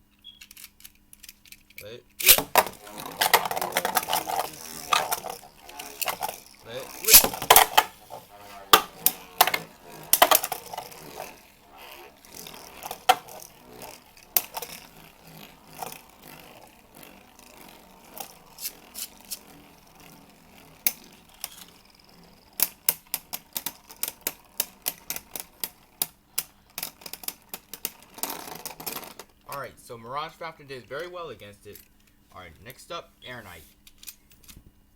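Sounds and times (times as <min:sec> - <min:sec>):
spinning tops whirring: 0:00.0 - 0:34.1
spinning tops clacking: 0:00.1 - 0:32.2.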